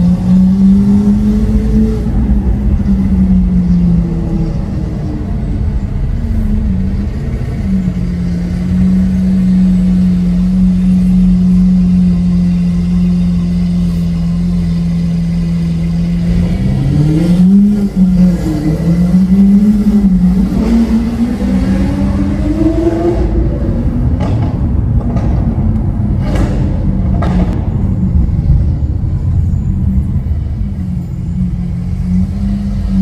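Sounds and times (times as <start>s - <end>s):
sports car engine revving: 0.0s - 27.6s.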